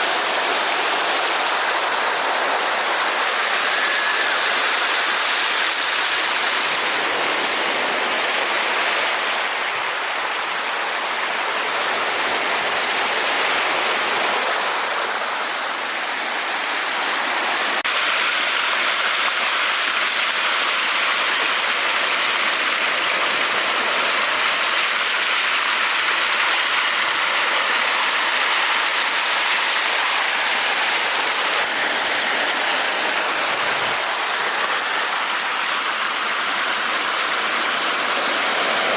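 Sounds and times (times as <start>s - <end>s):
water rushing with hiss: 0.0s - 38.9s.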